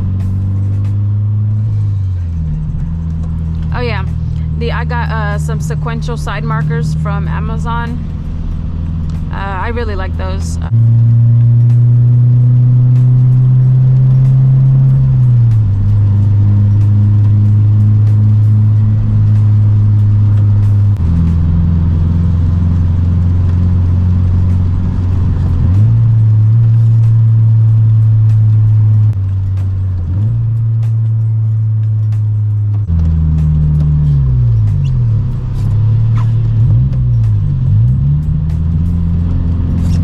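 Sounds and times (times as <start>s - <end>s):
car engine drone in cabin: 0.0s - 40.0s.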